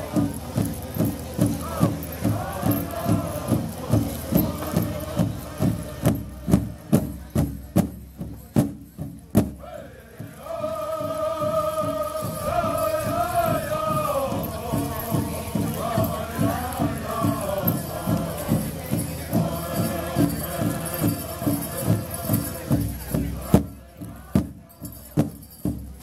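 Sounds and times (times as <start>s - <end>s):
high voices holding long notes: 0.0s - 7.2s, 9.6s - 25.2s
singers chanting: 0.0s - 7.2s, 9.5s - 25.0s
large drum beating: 0.0s - 26.0s.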